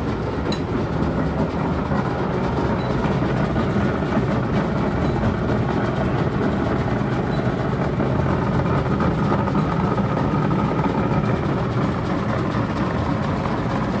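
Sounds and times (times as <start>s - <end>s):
heavy machinery rumble and hum: 0.0s - 14.0s.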